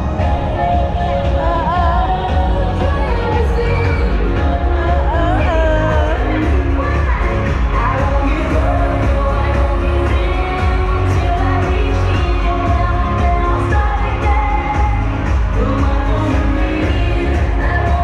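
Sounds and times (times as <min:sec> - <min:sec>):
pop song with singing: 0:00.0 - 0:18.0.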